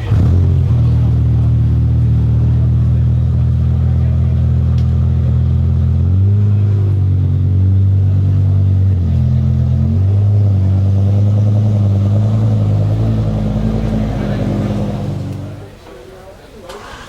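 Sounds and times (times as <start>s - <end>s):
loud deep car engine revving: 0.0s - 15.8s.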